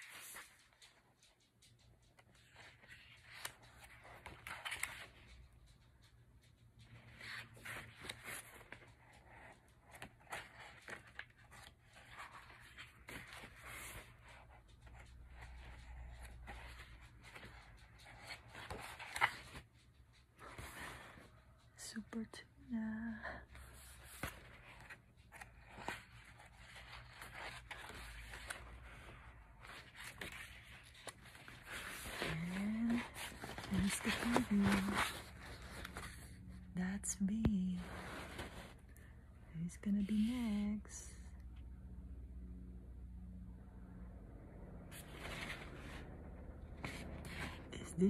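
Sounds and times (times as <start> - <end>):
paper pages rustling: 0.0 - 6.1, 6.7 - 21.4, 23.5 - 36.7, 37.4 - 39.0, 44.9 - 48.0.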